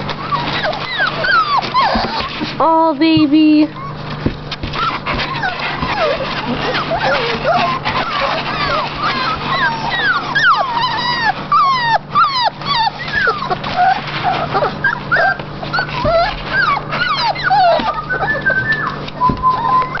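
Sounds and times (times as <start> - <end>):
puppies whimpering and squeaking: 0.0 - 20.0
puppy whining: 0.0 - 20.0.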